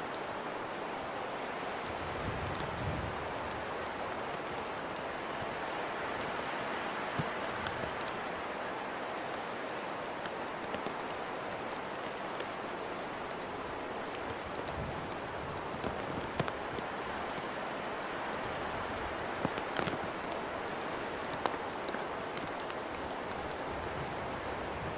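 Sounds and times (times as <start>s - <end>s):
raindrops hitting a surface: 0.0s - 24.9s
steady rain hiss: 0.0s - 24.9s.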